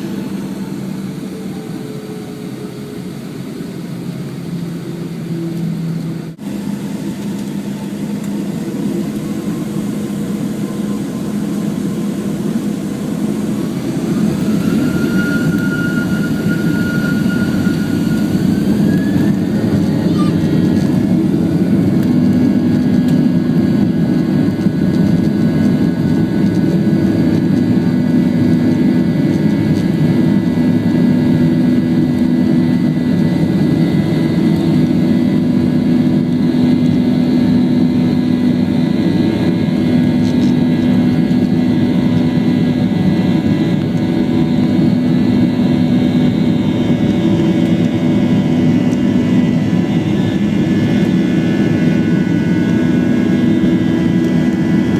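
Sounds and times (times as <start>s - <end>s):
jet engines droning: 0.0s - 54.9s.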